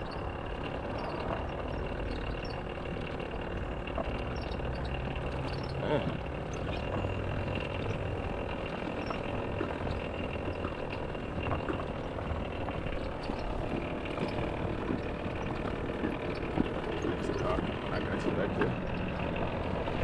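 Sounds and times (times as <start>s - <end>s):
vehicle engine running steadily: 0.0s - 20.0s.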